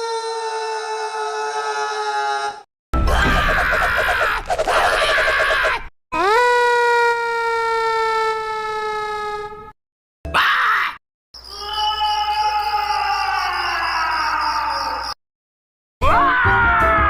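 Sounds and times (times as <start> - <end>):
harsh raspy cartoon scream: 0.0 - 9.6, 10.3 - 15.2, 16.0 - 17.0
high-pitched cartoon scream: 0.0 - 9.6, 10.3 - 15.2, 16.0 - 17.0.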